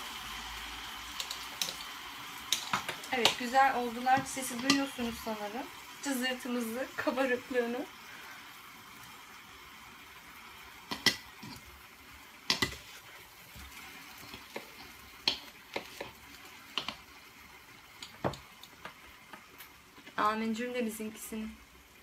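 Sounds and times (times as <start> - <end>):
syrup sizzling and bubbling: 0.0 - 22.0.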